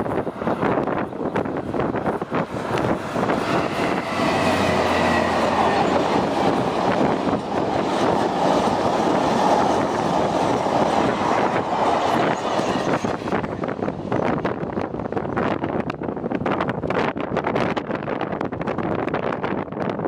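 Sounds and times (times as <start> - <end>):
diesel locomotive engine: 0.0 - 20.0
train wheels on rails: 0.0 - 20.0.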